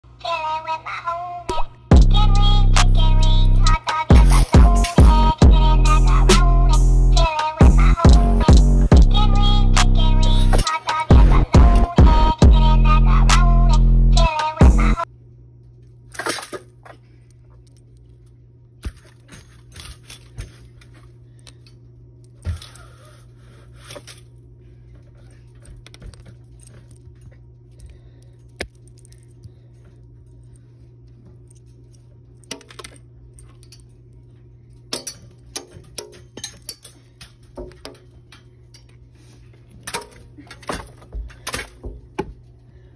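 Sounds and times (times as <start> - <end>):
steady low hum: 0.1 - 42.9.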